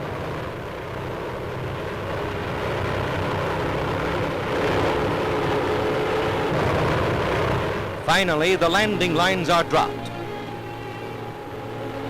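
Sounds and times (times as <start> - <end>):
aircraft engines droning: 0.0 - 12.0
film soundtrack hiss: 0.0 - 12.0.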